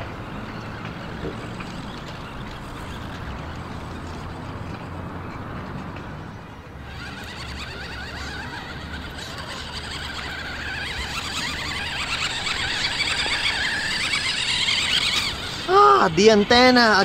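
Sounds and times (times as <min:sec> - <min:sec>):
toy electric motor whirring: 0:00.4 - 0:04.9, 0:06.8 - 0:17.0.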